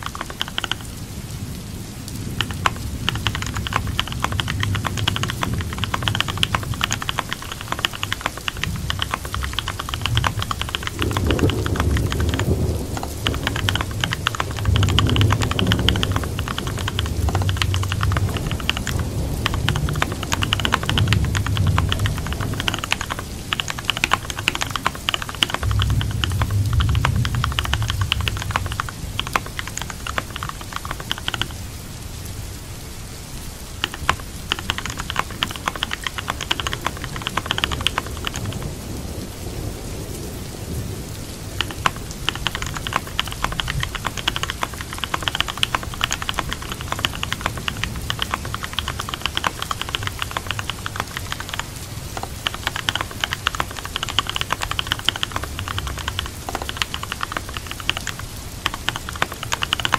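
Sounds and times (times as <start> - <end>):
keyboard typing clicks: 0.0 - 1.0, 2.4 - 31.6, 33.8 - 38.7, 41.5 - 59.9
steady rain: 0.0 - 59.9.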